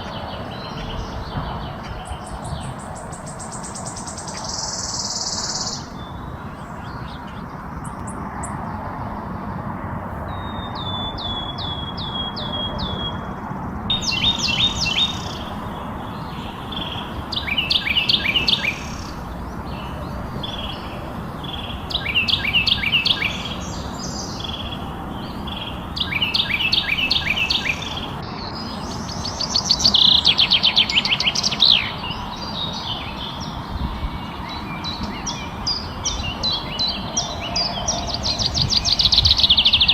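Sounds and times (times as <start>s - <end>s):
bird singing whistled notes: 0.0s - 7.2s, 10.3s - 19.2s, 21.5s - 39.9s.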